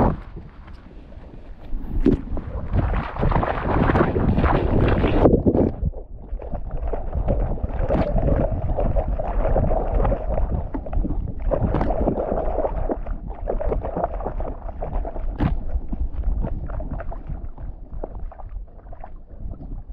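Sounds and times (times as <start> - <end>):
low rumble on microphone: 0.0 - 19.9
water sloshing and splashing: 0.0 - 19.9.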